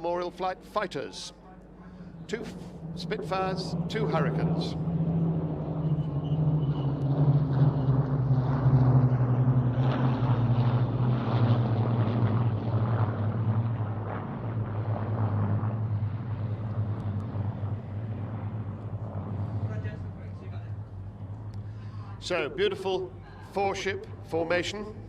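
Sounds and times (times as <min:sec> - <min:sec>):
propeller aircraft engines droning: 0:00.0 - 0:25.0.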